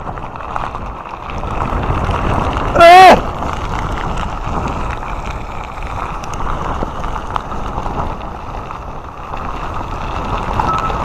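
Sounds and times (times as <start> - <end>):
wind rushing across microphone: 0.0 - 11.0.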